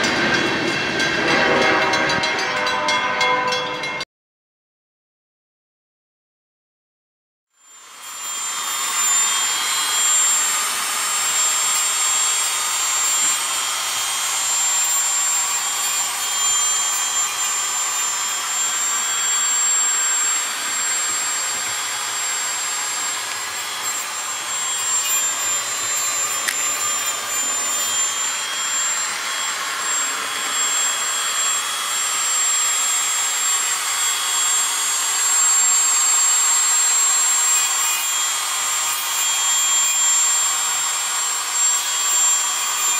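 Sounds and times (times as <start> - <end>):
machine high-pitched whine: 0.0 - 4.0, 7.5 - 42.9.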